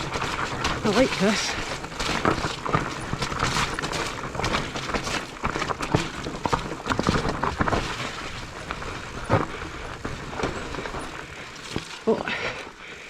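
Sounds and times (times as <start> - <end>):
bike knocks and rattles: 0.0 - 12.1
bike tyres rumbling on dirt: 0.0 - 13.0.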